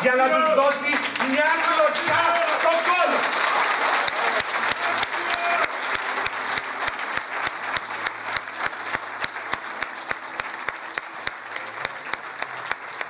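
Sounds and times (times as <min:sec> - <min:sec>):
audience clapping in rhythm: 0:00.0 - 0:13.0.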